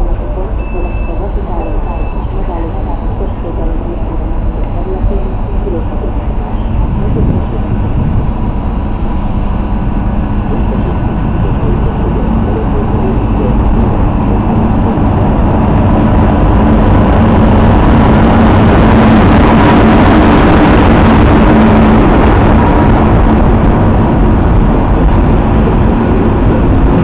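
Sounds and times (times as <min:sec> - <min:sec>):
electric locomotive hum: 0:00.0 - 0:27.0
train wheels rumbling on rails: 0:00.0 - 0:27.0.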